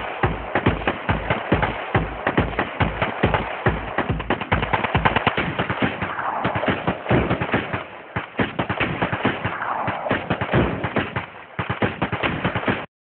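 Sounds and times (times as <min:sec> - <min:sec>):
rapid gunfire: 0:00.0 - 0:12.9.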